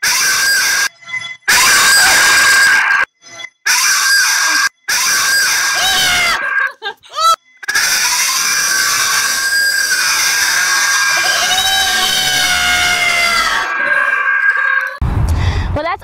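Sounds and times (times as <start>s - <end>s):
people screaming and shrieking: 0.0s - 0.9s, 1.5s - 15.0s
high rising shriek: 0.0s - 6.4s, 7.7s - 15.0s.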